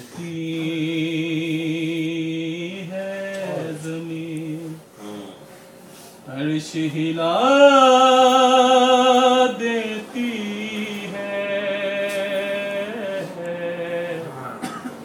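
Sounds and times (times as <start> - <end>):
man singing unaccompanied: 0.0 - 5.2, 6.3 - 14.4.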